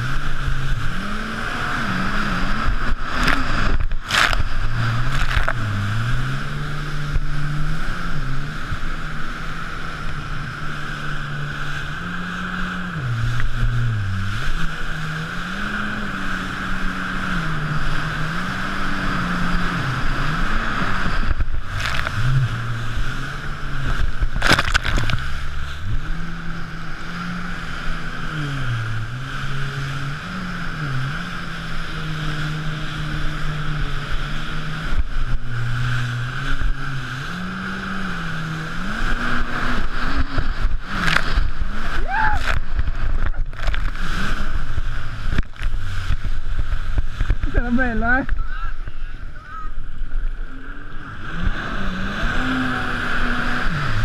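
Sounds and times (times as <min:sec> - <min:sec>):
jet ski engine running: 0:00.0 - 0:54.0
water spray and wind rush: 0:00.0 - 0:54.0.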